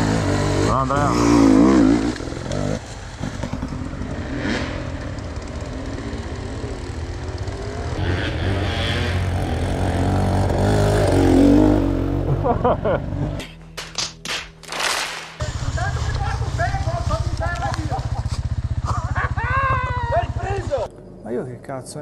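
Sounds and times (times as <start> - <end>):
dirt bike engine revving: 0.0 - 13.4, 15.4 - 20.9.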